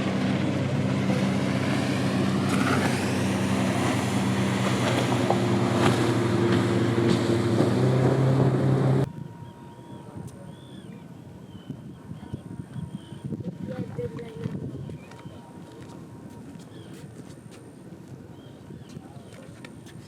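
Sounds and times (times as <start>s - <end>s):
boat engine running: 0.0s - 16.9s
water noise: 0.0s - 19.8s
wind: 0.0s - 20.0s.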